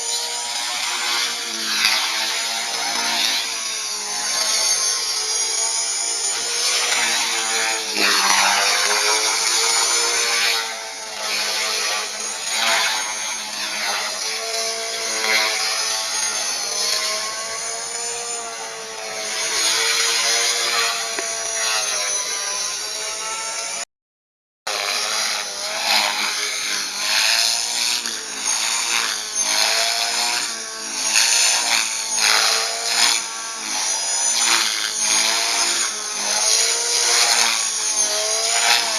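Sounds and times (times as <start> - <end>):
rc helicopter motor and rotor whine: 0.0 - 23.9, 24.7 - 38.9.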